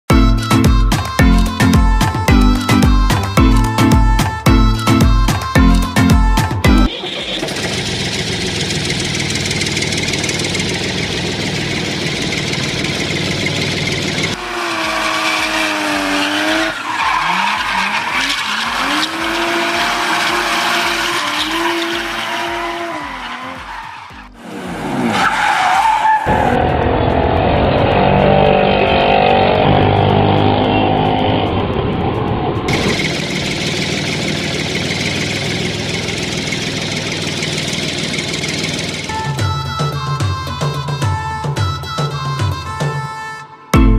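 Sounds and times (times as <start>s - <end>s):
engine running: 0.1s - 25.2s, 26.3s - 40.3s
engine and tyre noise: 0.1s - 41.0s.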